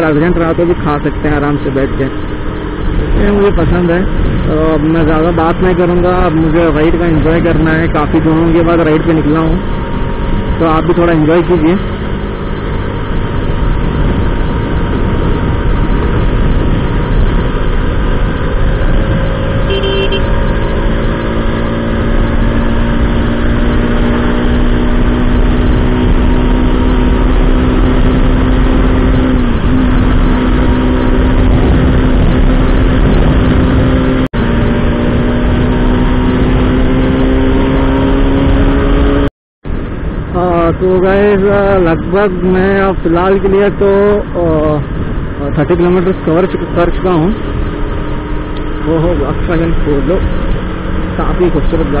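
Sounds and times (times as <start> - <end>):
motorcycle engine at speed: 0.0 - 52.0
wind noise: 0.0 - 52.0.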